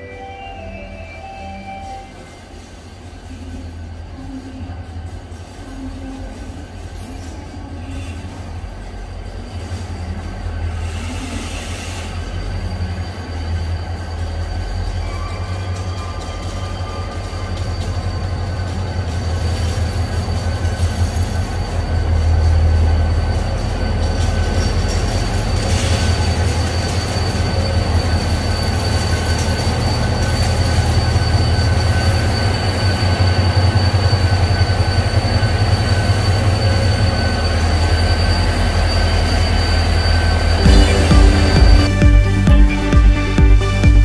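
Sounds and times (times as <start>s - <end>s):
diesel locomotive engine drone: 0.0s - 44.0s
thin high squeal: 5.5s - 42.0s.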